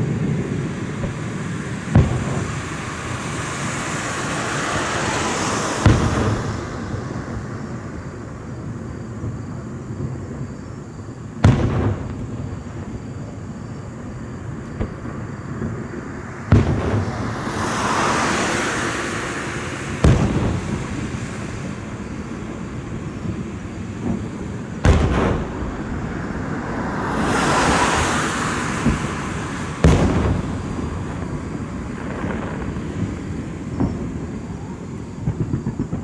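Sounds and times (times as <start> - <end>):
crackle of sparks: 0.0 - 36.0
fireworks booming: 0.0 - 36.0.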